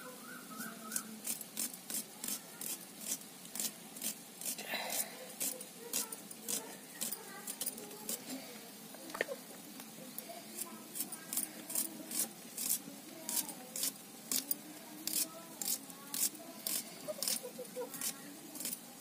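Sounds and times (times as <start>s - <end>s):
knife cutting dry onion skin: 0.6s - 8.3s, 10.5s - 18.9s.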